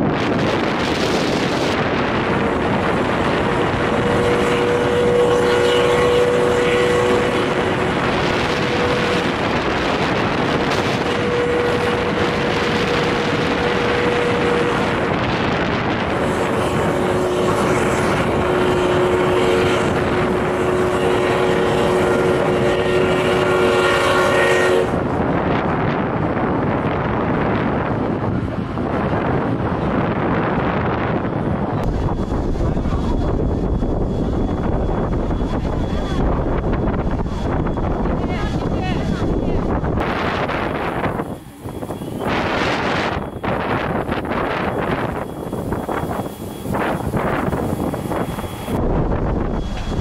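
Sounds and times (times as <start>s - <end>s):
trains at a station: 0.0s - 50.0s.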